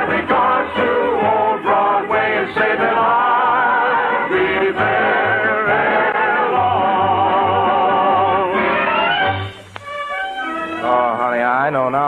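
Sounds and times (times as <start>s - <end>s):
orchestral show music: 0.0s - 12.0s.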